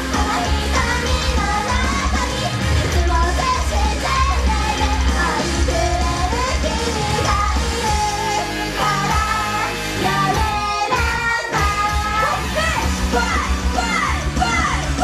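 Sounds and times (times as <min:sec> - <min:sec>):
amplified pop music with heavy bass: 0:00.0 - 0:15.0
women singing into microphones: 0:00.0 - 0:15.0.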